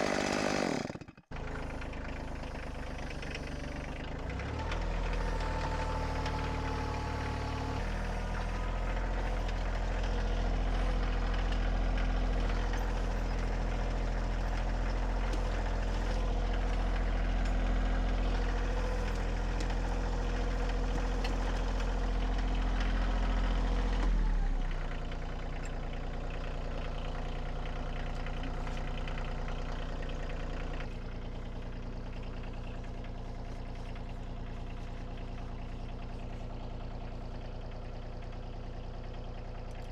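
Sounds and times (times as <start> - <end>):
compact tractor engine running: 0.0 - 39.9.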